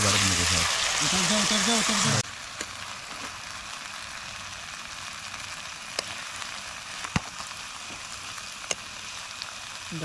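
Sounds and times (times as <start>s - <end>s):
curry sizzling in a pan: 0.0s - 10.0s.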